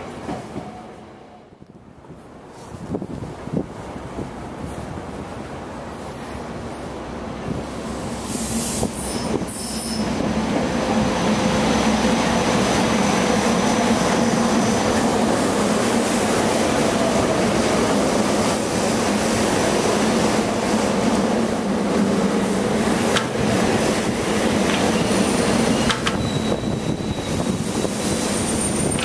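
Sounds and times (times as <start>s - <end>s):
electric train hum: 0.0s - 29.0s
wheel and rail noise: 1.6s - 29.0s.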